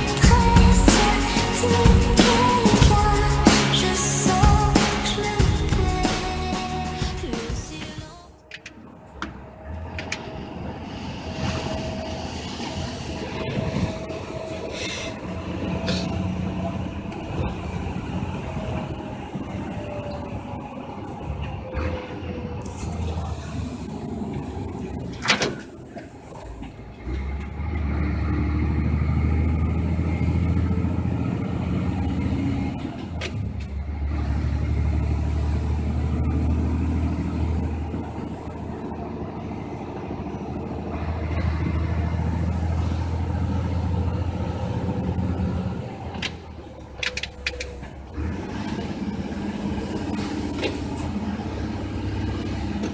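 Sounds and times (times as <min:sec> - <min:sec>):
heavy truck engine drone: 0:00.0 - 0:52.9.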